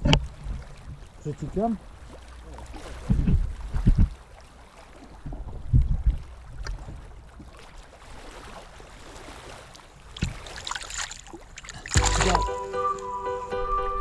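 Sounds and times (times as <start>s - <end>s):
seawater sloshing among rocks: 0.0s - 12.5s.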